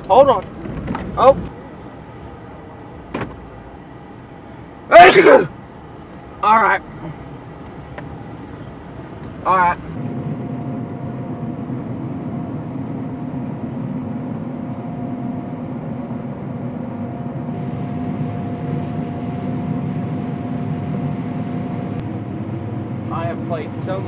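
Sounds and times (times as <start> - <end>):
constant machine whine: 0.0 - 24.0
harvester machine drone: 0.0 - 24.0.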